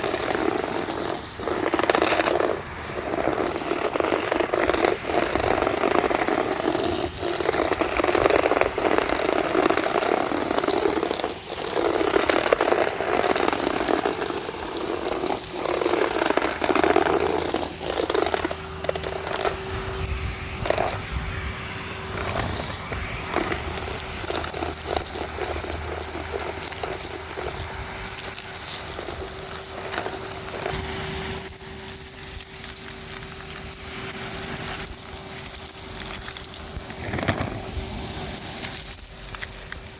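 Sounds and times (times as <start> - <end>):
vacuum cleaner motor humming: 0.0 - 39.9
vacuum nozzle crackling on grit: 0.0 - 39.9.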